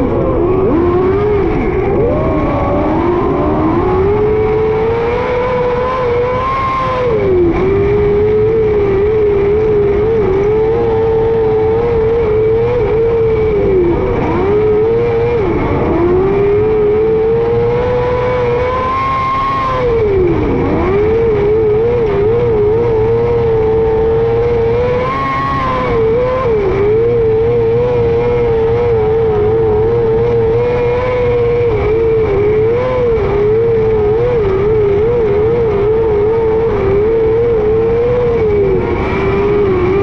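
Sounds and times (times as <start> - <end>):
race car engine running hard: 0.0 - 40.0.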